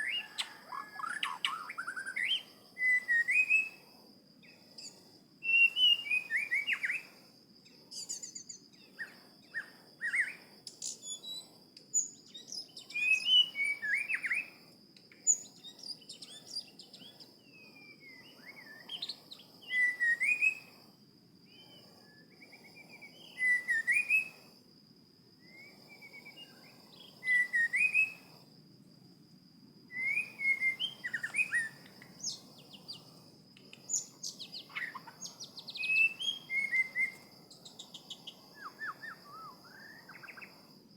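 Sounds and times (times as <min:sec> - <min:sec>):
songbird whistling: 0:00.0 - 0:03.8, 0:04.4 - 0:07.2, 0:08.0 - 0:14.6, 0:15.2 - 0:20.7, 0:21.5 - 0:24.5, 0:25.4 - 0:28.4, 0:29.9 - 0:33.0, 0:33.6 - 0:40.5.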